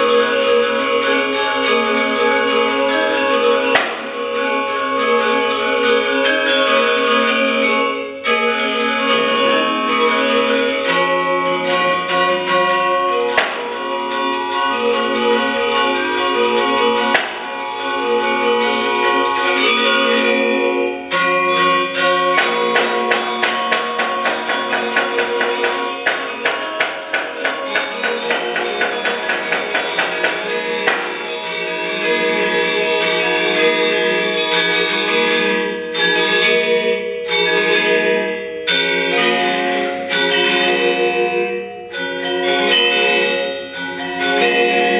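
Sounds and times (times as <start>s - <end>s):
metallophones struck with mallets: 0.0s - 44.9s.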